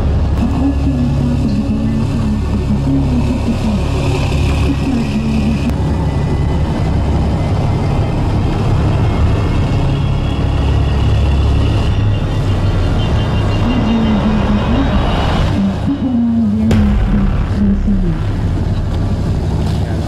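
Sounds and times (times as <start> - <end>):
boat engines rumbling: 0.0 - 20.0.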